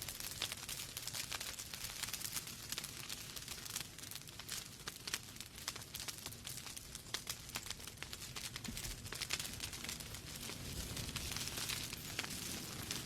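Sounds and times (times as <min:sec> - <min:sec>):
low rumble of fire: 0:00.0 - 0:13.0
wood fire crackling: 0:00.0 - 0:13.0.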